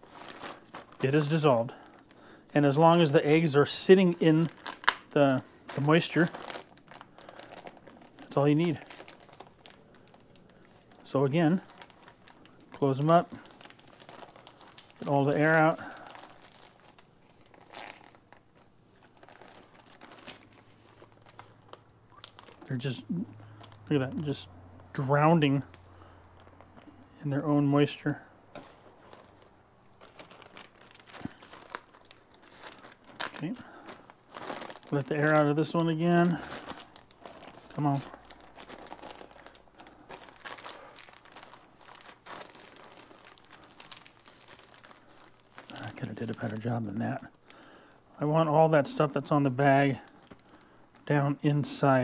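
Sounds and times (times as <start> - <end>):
plastic bag crinkling: 0.0 - 47.7, 49.7 - 52.0.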